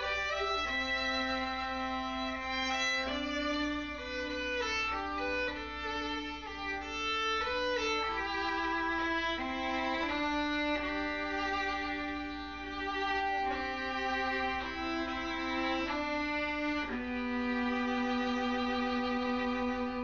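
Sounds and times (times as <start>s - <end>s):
slow violin melody: 0.0s - 20.0s.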